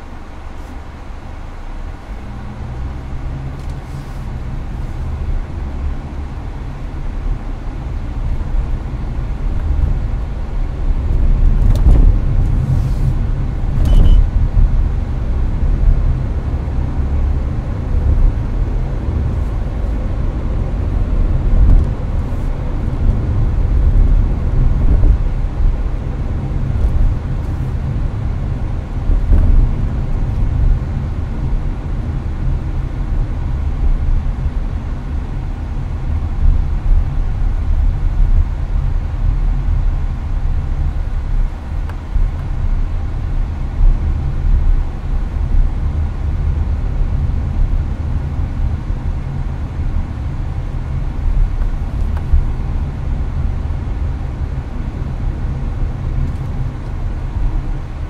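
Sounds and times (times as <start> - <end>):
air conditioner fan blowing: 0.0 - 58.0
road and engine rumble: 0.0 - 58.0.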